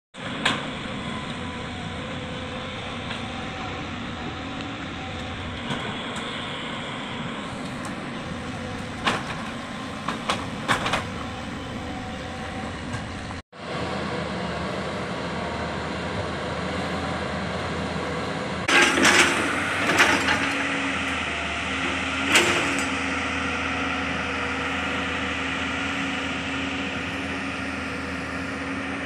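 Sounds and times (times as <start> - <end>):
excavator diesel engine running: 0.2 - 29.0.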